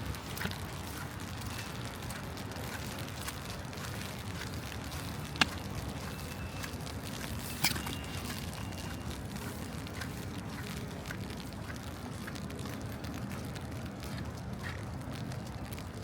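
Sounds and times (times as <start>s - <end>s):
faint rain ticks: 0.0s - 7.4s, 8.1s - 16.0s
distant traffic rumble: 0.0s - 16.0s.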